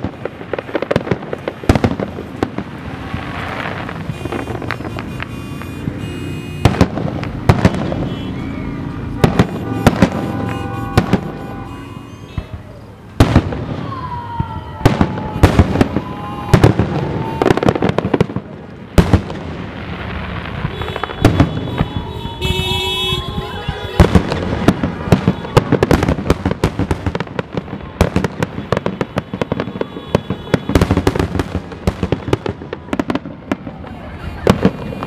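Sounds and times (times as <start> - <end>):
fireworks bursting with sharp bangs: 0.0 - 35.0.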